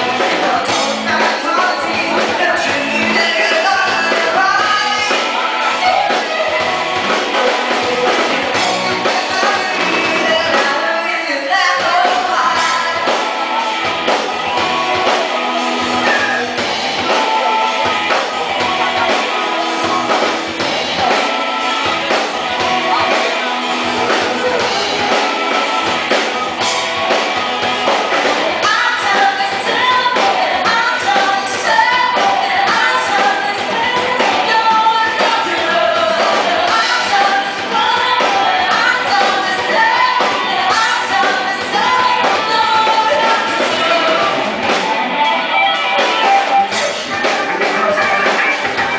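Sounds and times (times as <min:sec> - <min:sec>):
live latin band playing: 0:00.0 - 0:48.9
person singing lead vocals: 0:00.0 - 0:48.9.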